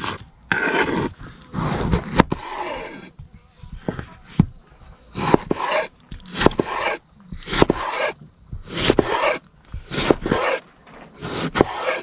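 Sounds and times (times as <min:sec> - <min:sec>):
knife scraping on cutting board: 0:00.0 - 0:03.1, 0:05.2 - 0:12.0.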